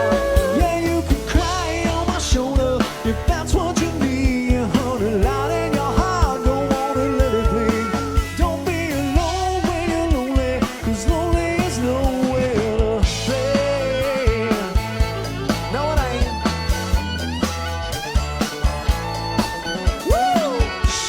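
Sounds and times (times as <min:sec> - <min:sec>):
country band playing: 0:00.0 - 0:21.0
drums: 0:00.0 - 0:21.0
lead melody with bending notes: 0:00.0 - 0:21.0.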